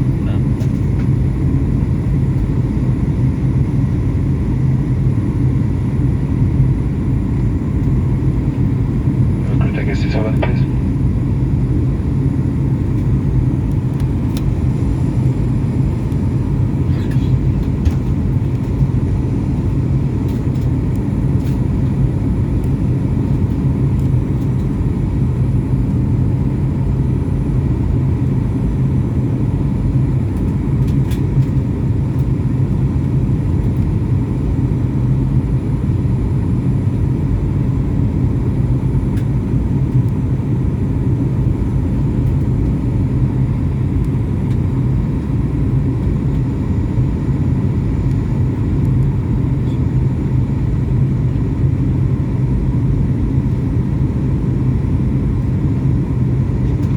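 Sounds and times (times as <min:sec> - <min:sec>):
airliner cabin engine drone: 0:00.0 - 0:56.9.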